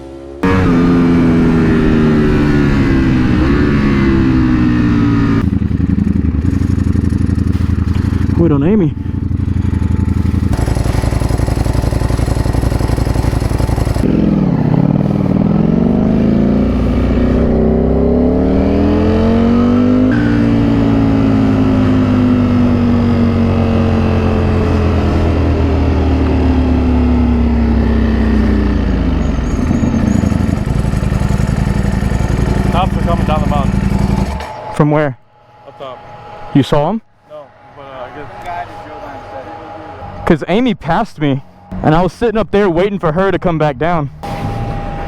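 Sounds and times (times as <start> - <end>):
motorcycle engine accelerating: 0.0 - 42.1.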